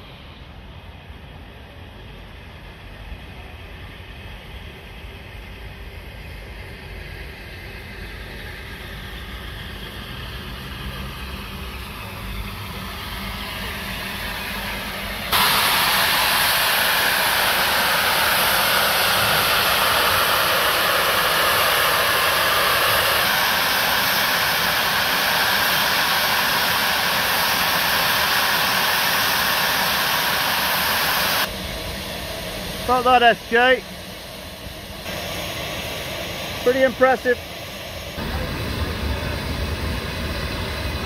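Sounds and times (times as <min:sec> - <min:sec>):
locomotive rumble: 0:00.0 - 0:41.0
steam rushing from safety valves: 0:06.6 - 0:41.0.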